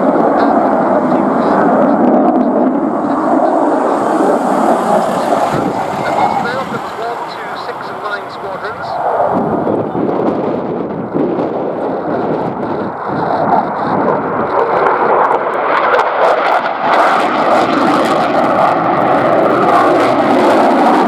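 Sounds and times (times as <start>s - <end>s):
jet flying past: 0.0s - 21.0s.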